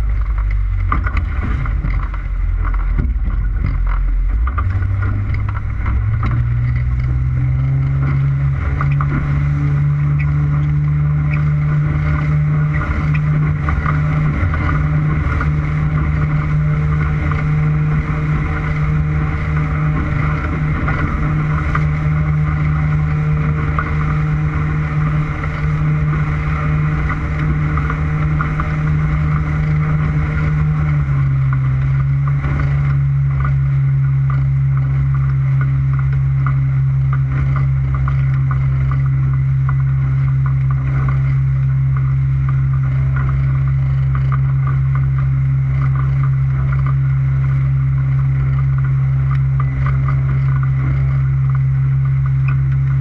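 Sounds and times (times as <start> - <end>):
motorboat engine running: 0.0 - 53.0.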